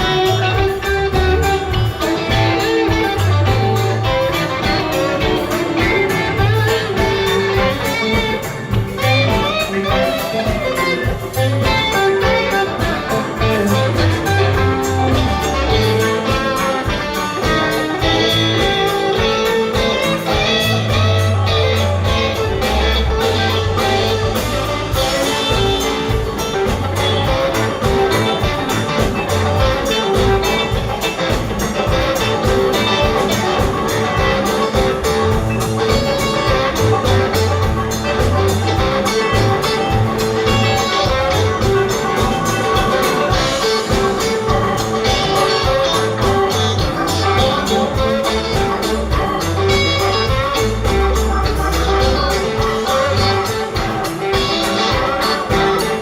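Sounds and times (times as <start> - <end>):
bass line: 0.0 - 56.0
drums keeping a steady beat: 0.0 - 56.0
electric guitar: 0.0 - 56.0.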